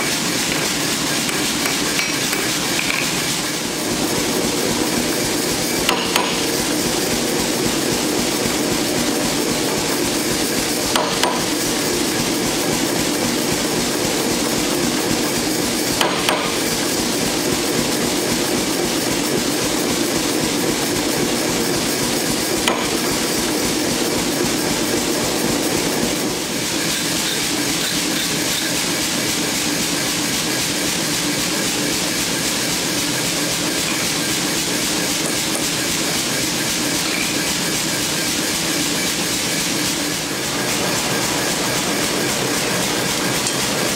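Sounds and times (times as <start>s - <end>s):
gas forge burner roaring: 0.0s - 43.9s.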